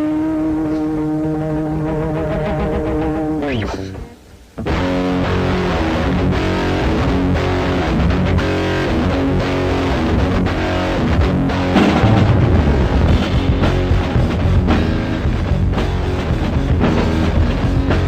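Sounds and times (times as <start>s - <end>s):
rock band with electric guitar: 0.0s - 18.0s.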